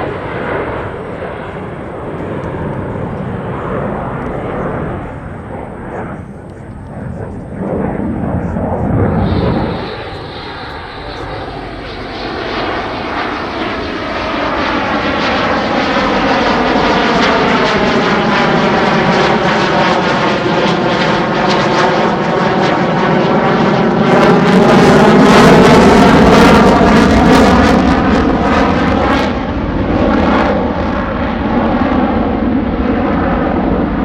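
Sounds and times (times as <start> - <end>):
fighter jet engine roaring: 0.0 - 34.0.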